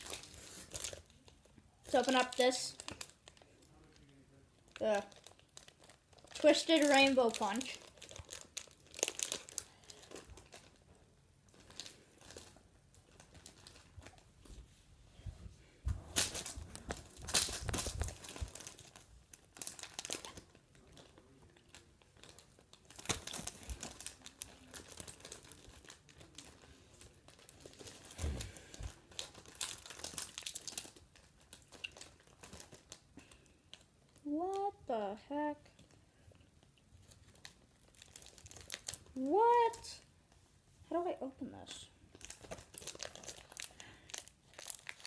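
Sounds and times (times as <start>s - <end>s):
plastic candy wrapper crinkling: 0.0s - 14.4s, 16.1s - 40.3s, 41.7s - 45.0s.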